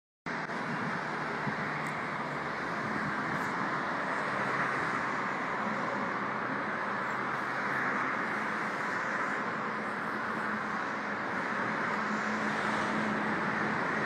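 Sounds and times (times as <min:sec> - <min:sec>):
road traffic noise: 0:00.3 - 0:14.0.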